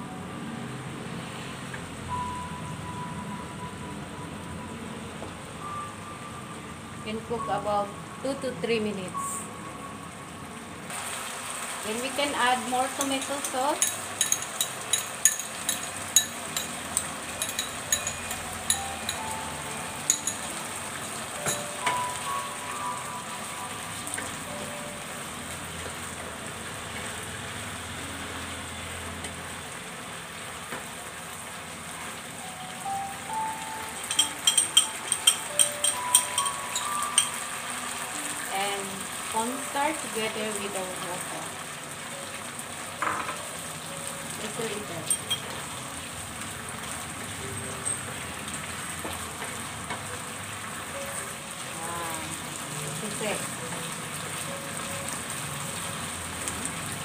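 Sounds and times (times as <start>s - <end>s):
meat sizzling in a frying pan: 10.9s - 57.0s.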